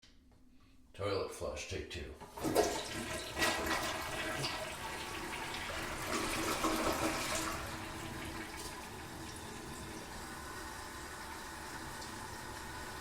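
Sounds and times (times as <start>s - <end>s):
toilet flushing: 2.2s - 13.0s.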